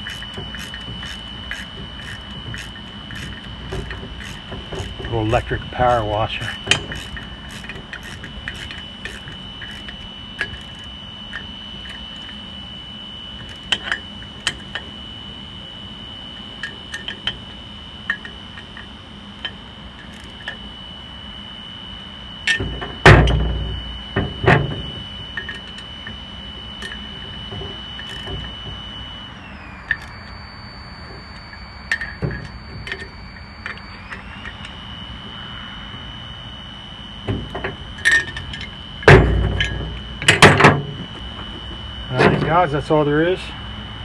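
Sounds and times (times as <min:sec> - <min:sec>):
electric power washer whine: 0:00.0 - 0:44.0.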